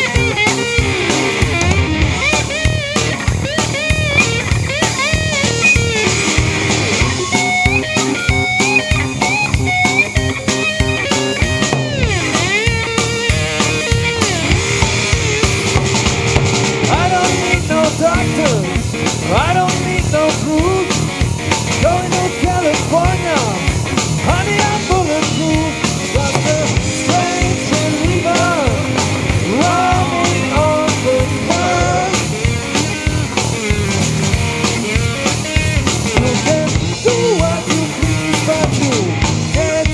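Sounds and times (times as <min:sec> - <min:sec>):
bass guitar: 0:00.0 - 0:39.9
drum kit: 0:00.0 - 0:39.9
lead electric guitar: 0:00.0 - 0:39.9.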